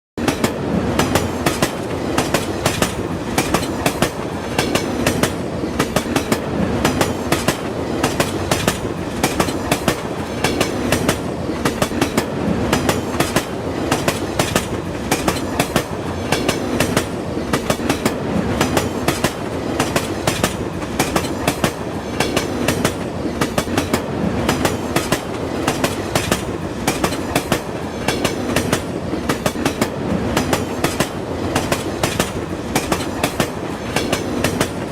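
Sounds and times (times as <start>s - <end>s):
train wheels clattering: 0.2s - 34.9s.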